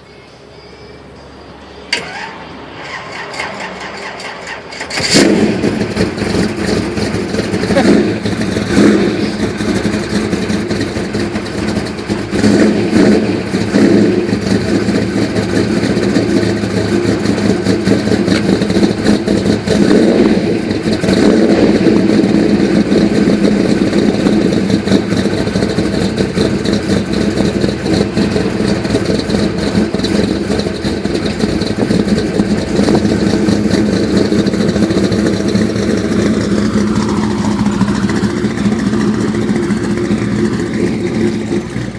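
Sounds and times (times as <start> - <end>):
car engine idling with a lope: 3.0 - 41.9.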